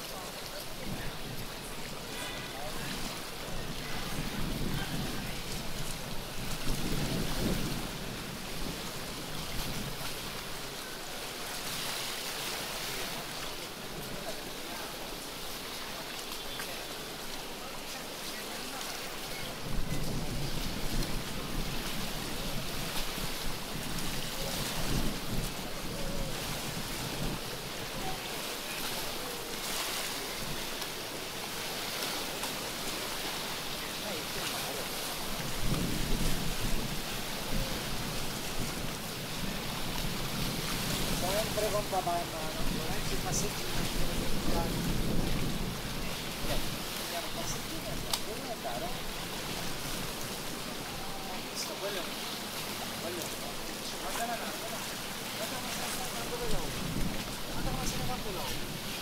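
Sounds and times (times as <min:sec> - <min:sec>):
wind buffeting microphone: 0:00.0 - 0:14.5, 0:18.7 - 0:59.0
sea water washing on shore: 0:00.0 - 0:59.0.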